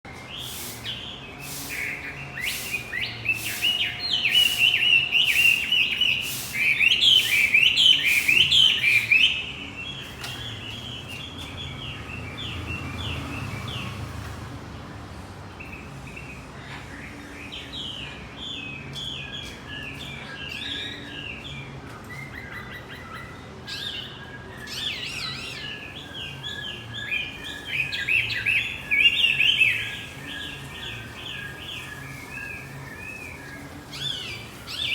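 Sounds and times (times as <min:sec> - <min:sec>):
bird chirping song: 0:00.1 - 0:34.9.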